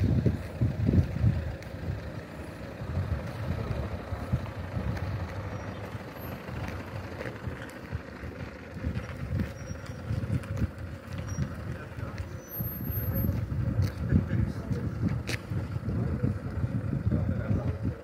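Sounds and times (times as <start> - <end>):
car road and engine noise: 0.0 - 18.0
wind rumbling on microphone: 0.0 - 18.0.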